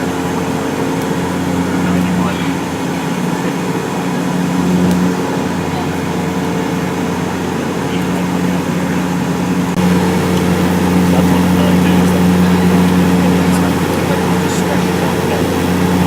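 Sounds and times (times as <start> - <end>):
rushing road noise: 0.0 - 16.0
vehicle engine drone: 0.0 - 16.0.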